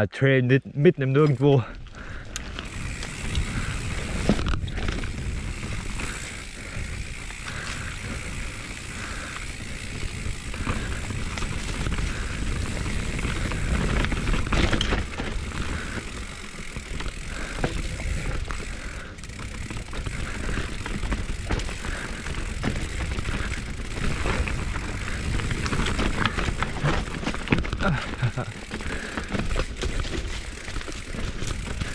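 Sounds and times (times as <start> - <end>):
bike rattling and knocking: 1.3 - 31.9
bike tyres rumbling on trail: 1.4 - 31.9.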